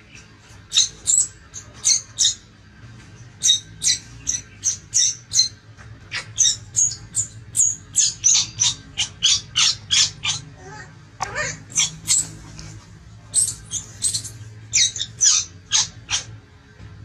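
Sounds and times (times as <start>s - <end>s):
infant monkey squealing: 0.7s - 2.4s, 3.4s - 12.4s, 13.3s - 16.3s.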